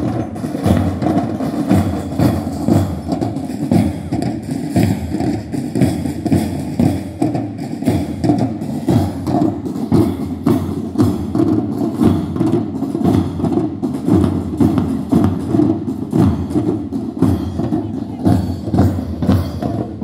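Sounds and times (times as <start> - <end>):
parade drums marching rhythm: 0.0 - 20.0.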